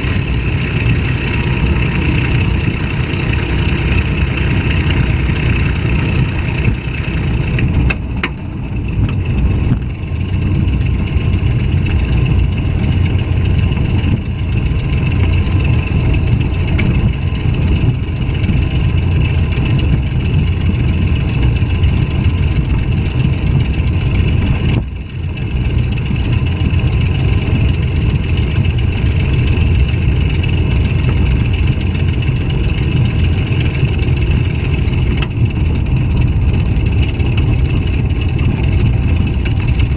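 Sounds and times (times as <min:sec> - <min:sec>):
aircraft piston engine running: 0:00.0 - 0:39.9.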